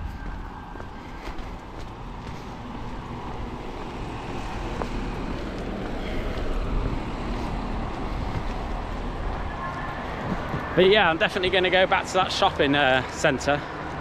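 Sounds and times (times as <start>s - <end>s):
street noise rumble and hiss: 0.0s - 14.0s.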